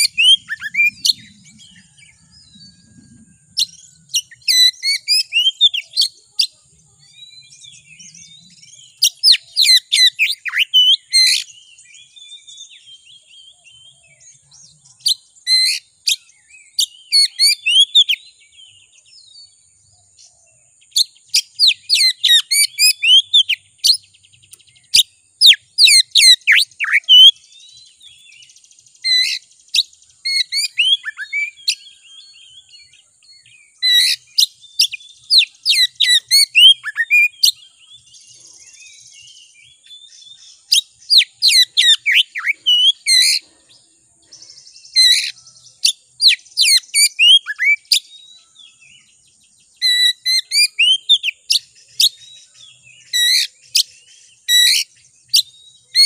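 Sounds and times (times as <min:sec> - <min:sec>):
bird twittering: 0:00.0 - 0:19.0, 0:20.2 - 0:56.0
bird singing whistled notes: 0:00.0 - 0:56.0.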